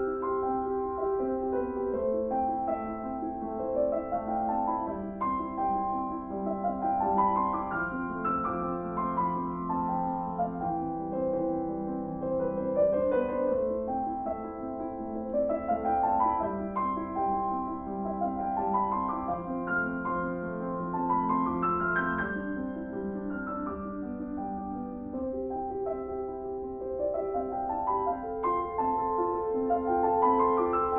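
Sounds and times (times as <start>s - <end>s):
gentle piano music: 0.0s - 30.9s.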